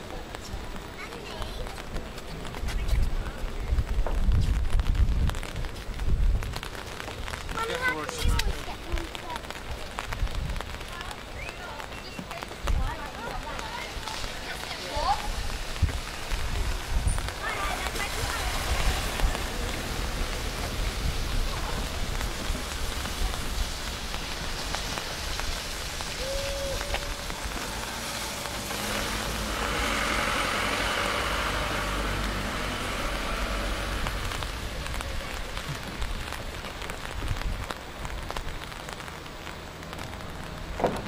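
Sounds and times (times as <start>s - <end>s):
rain falling on water: 0.0s - 41.0s.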